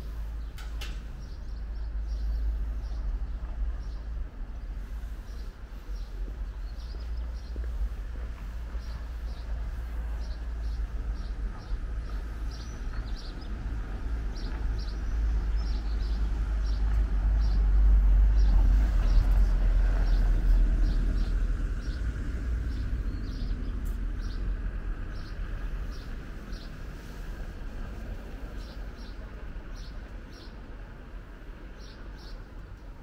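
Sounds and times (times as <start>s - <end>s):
small birds chirping: 0.0s - 17.8s, 18.4s - 24.5s, 25.1s - 27.3s, 27.9s - 30.8s, 31.6s - 32.9s.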